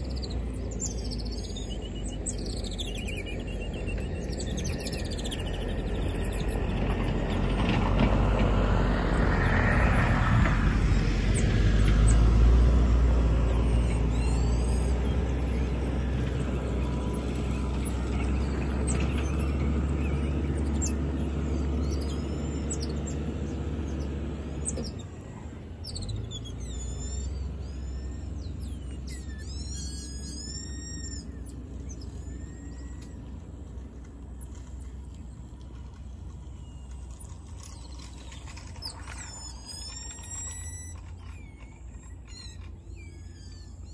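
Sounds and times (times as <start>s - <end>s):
low engine rumble: 0.0s - 43.9s
small birds chirping: 0.0s - 43.9s.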